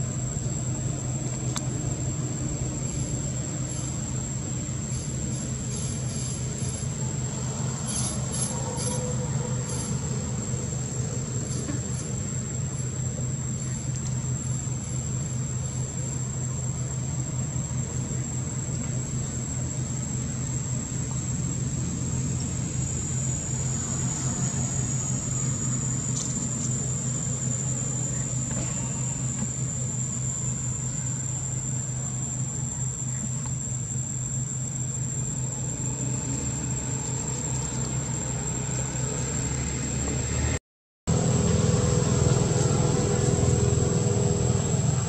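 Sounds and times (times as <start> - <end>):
high-pitched insect whine: 0.0 - 45.0.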